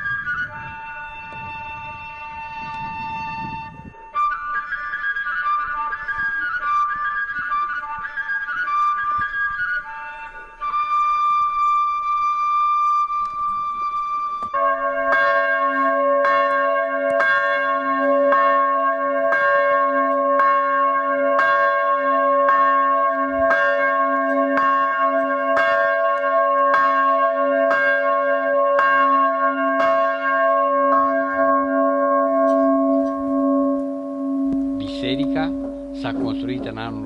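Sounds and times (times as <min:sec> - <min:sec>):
church bell tolling: 0:00.0 - 0:12.6, 0:14.5 - 0:37.0.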